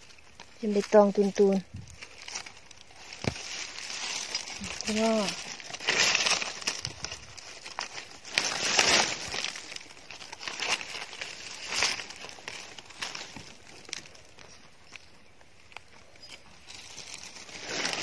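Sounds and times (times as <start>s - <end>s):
dry leaves rustling: 0.0s - 18.0s.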